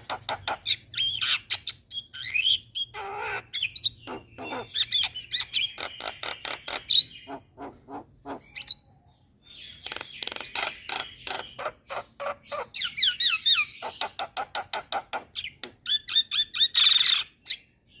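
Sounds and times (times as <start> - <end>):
starlings singing: 0.0 - 18.0.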